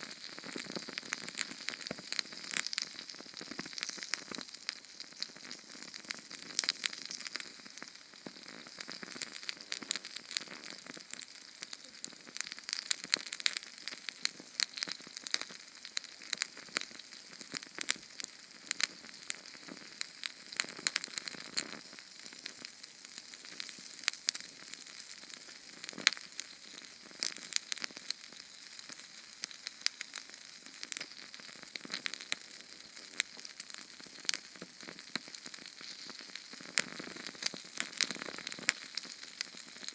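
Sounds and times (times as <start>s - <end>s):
canned fuel flame crackling: 0.0s - 39.9s.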